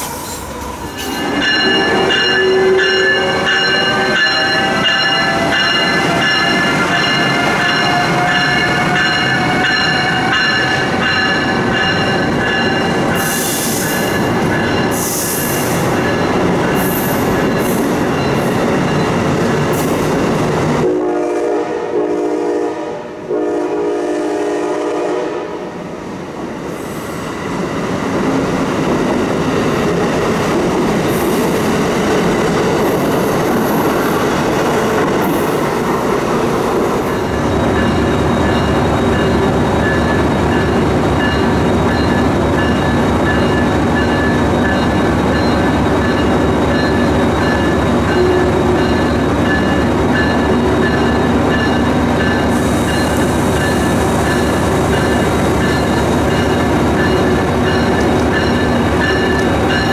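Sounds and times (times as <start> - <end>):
train wheels rushing on rails: 0.0 - 59.9.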